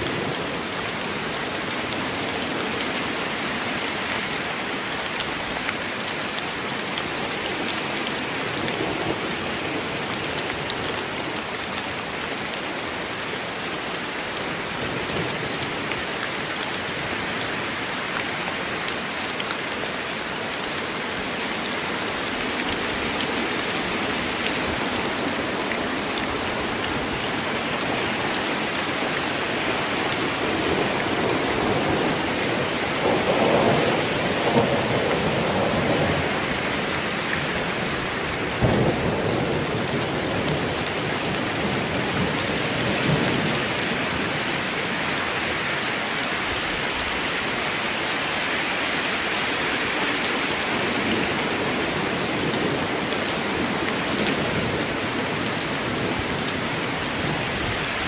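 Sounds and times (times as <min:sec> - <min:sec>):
heavy rain on a forest: 0:00.0 - 0:58.0.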